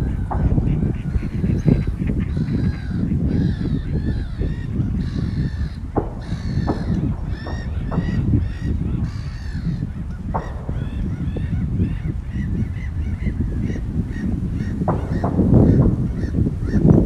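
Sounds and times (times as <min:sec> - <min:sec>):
steady low rumble: 0:00.0 - 0:17.0
waterfowl honking: 0:00.0 - 0:17.0.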